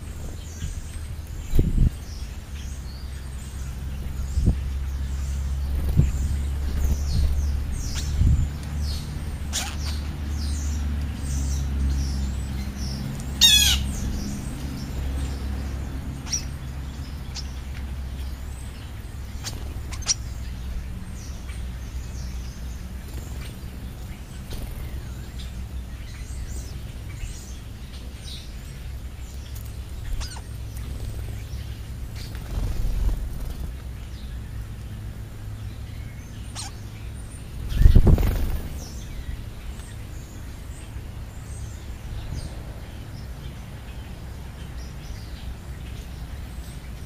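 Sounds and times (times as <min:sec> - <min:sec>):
sparrows chirping: 0:00.0 - 0:47.0.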